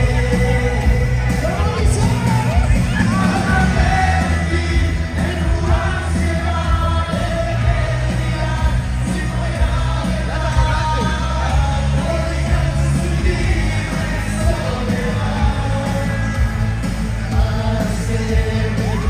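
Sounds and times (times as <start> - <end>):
amplified backing music with bass: 0.0 - 19.0
male vocal group singing: 0.0 - 19.0.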